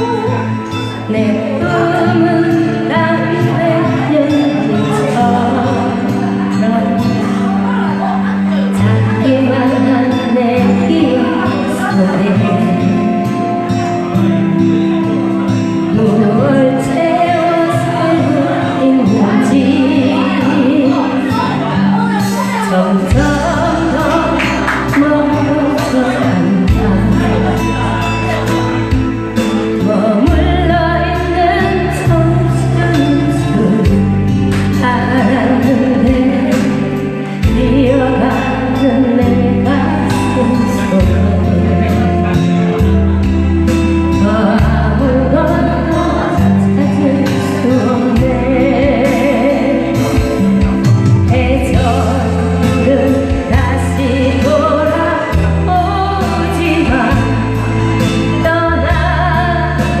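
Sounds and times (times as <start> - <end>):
song with singing and bass line: 0.0 - 60.0.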